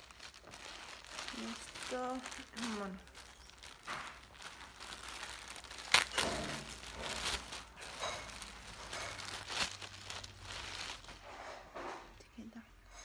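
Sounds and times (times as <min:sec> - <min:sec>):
plastic bag crinkling and rustling: 0:00.0 - 0:12.0.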